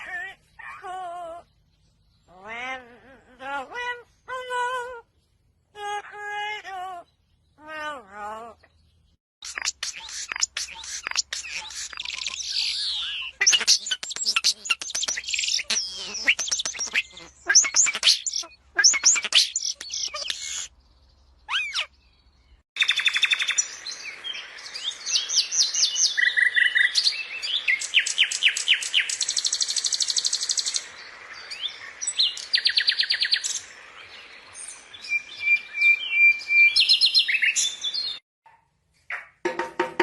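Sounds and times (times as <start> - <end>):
songbirds singing: 0.0 - 38.2.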